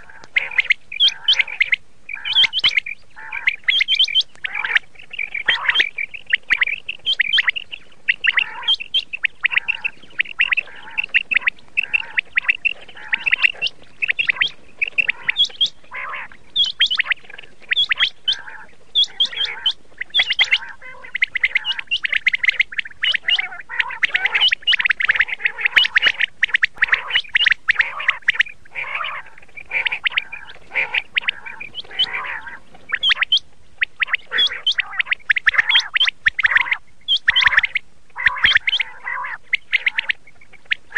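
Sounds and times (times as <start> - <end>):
quail chirping: 0.0 - 40.9.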